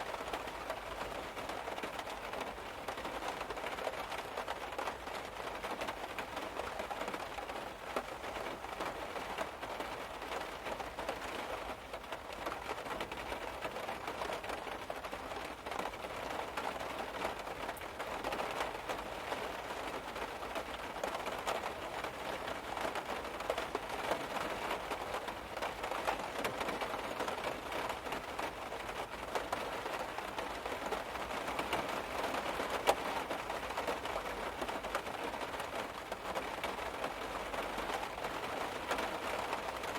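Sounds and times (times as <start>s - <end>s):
rain pattering on car roof: 0.0s - 39.9s.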